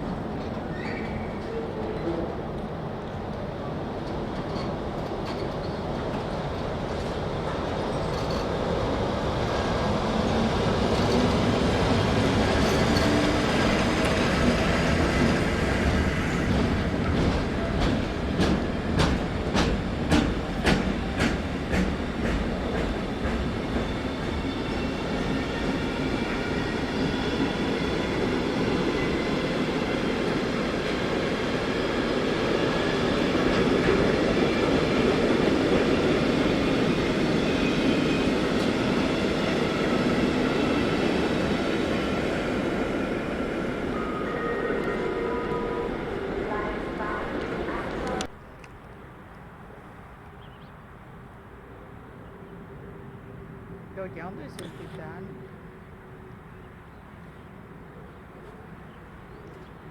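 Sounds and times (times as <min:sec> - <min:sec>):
electric train passing: 0:00.0 - 0:50.2
train whine: 0:00.0 - 0:50.2.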